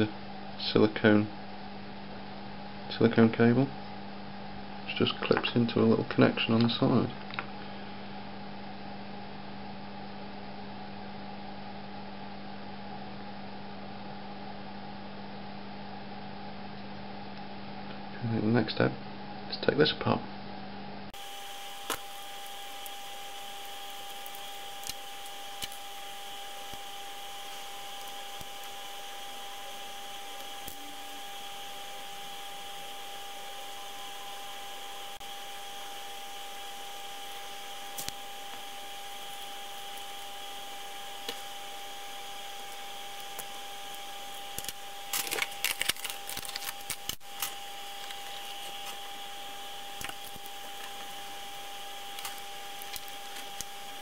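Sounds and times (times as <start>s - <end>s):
steady hum with high whine: 0.0s - 54.0s.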